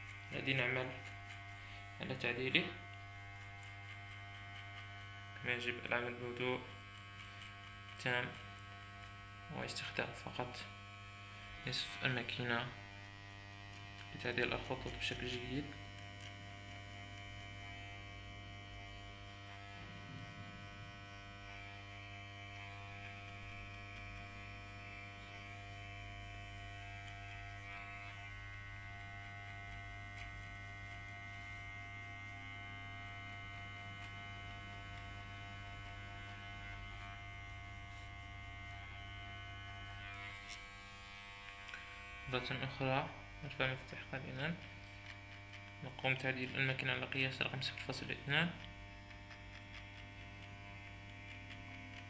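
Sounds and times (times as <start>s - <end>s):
electric hair clipper buzzing: 0.0s - 52.0s.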